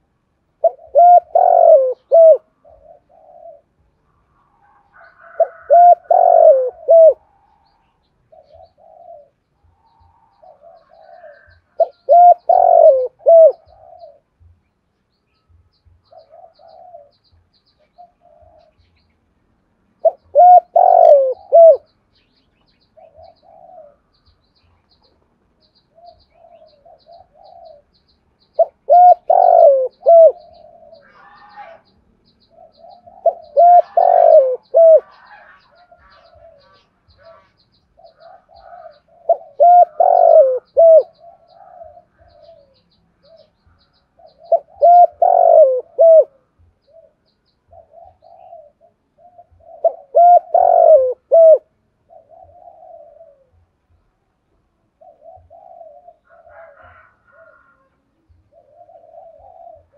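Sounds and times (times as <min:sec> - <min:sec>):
dove cooing: 0:00.0 - 0:03.9, 0:04.6 - 0:14.5, 0:16.0 - 0:19.0, 0:20.0 - 0:22.0, 0:23.0 - 0:24.3, 0:25.8 - 0:54.1, 0:54.9 - 0:59.9.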